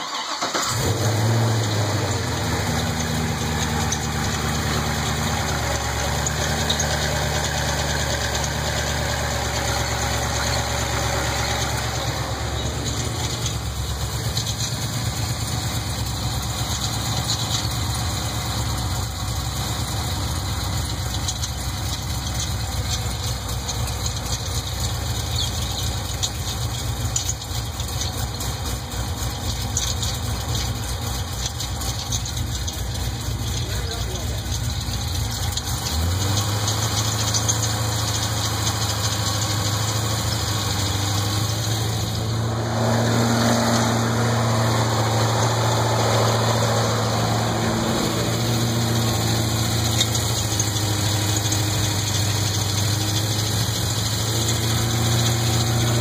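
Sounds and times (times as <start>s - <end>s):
engine idling: 0.0s - 56.0s
engine knocking: 0.0s - 56.0s.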